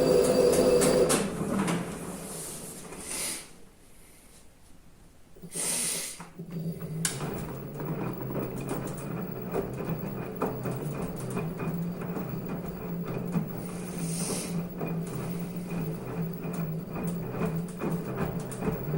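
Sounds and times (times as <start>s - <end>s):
washing machine motor humming: 0.0s - 2.9s, 6.4s - 18.9s.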